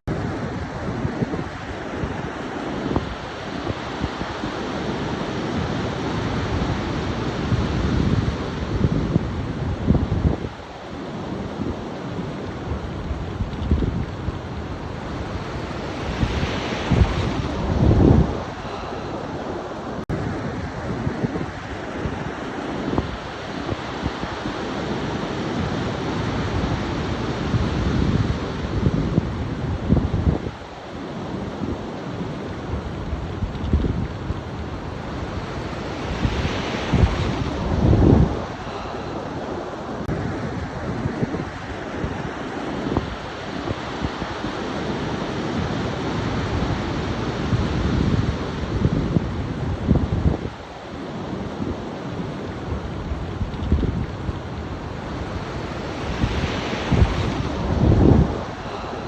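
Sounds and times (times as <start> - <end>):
ocean surf: 0.1 - 59.0
wind buffeting microphone: 0.1 - 59.0.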